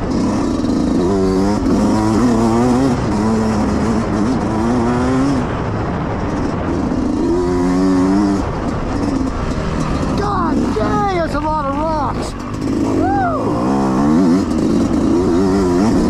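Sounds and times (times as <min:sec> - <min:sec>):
two-stroke dirt bike engine revving: 0:00.0 - 0:16.0.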